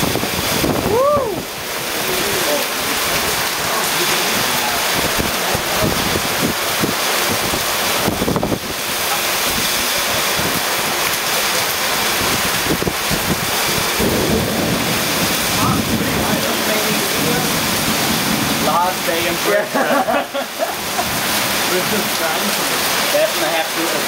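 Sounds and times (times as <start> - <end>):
wind buffeting microphone: 0.0 - 19.4
heavy rain pouring: 0.0 - 24.0.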